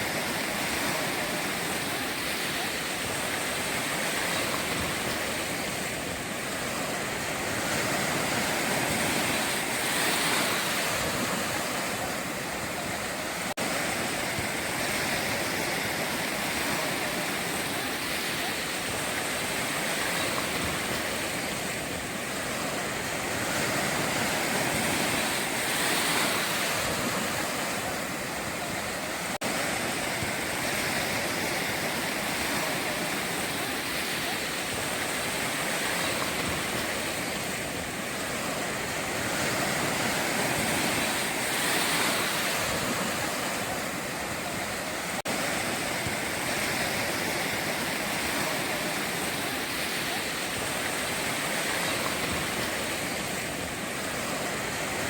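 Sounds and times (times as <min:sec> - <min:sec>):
ocean surf breaking on shore: 0:00.0 - 0:55.0.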